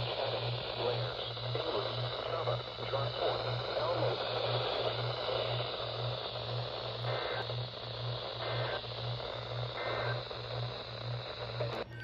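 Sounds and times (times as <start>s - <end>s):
pulsing low hum: 0.0s - 12.0s
radio static hiss: 0.0s - 12.0s.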